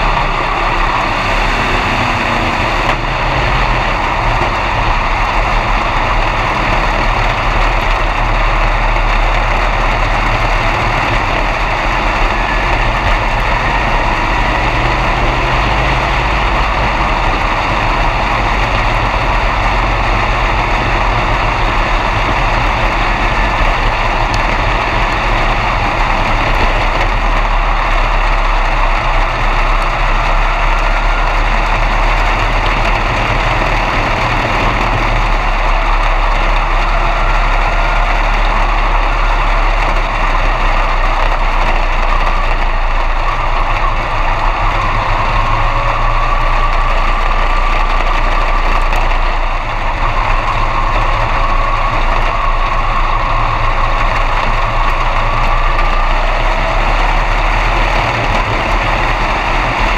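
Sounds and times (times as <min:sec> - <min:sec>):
race car engine idling: 0:00.0 - 0:59.9.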